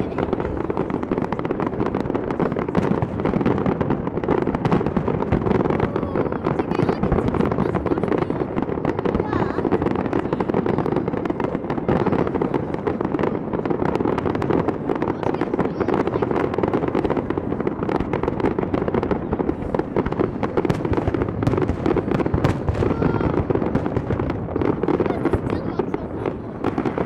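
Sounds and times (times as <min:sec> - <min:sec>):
fireworks cracking and popping: 0:00.0 - 0:27.0.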